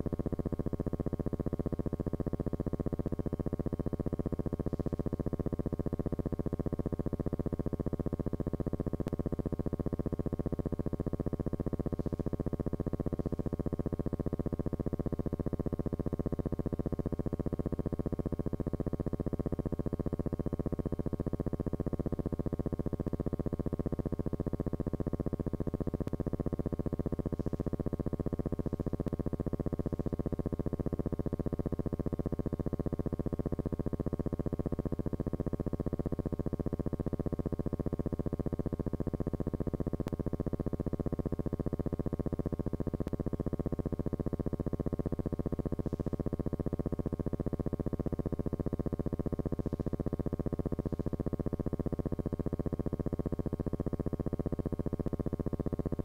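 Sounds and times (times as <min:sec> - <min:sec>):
low electrical buzzing hum: 0:00.0 - 0:56.0.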